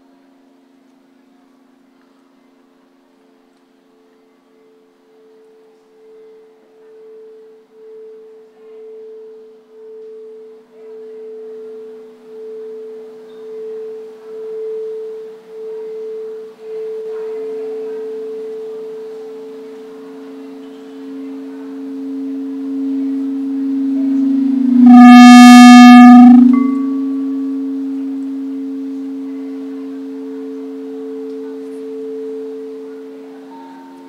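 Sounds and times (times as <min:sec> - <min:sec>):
low bowl tone: 0:00.0 - 0:34.0
crystal singing bowls ringing: 0:04.2 - 0:34.0.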